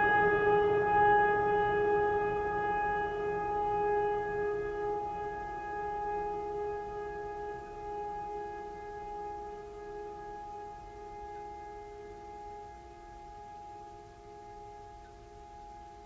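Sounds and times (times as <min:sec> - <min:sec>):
sustained musical drone: 0:00.0 - 0:16.0.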